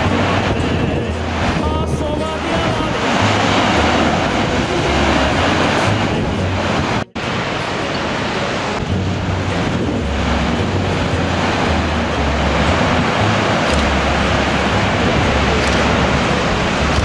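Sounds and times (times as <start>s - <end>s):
heavy surf breaking on rocks: 0.0s - 17.0s
wind buffeting microphone: 0.0s - 17.0s.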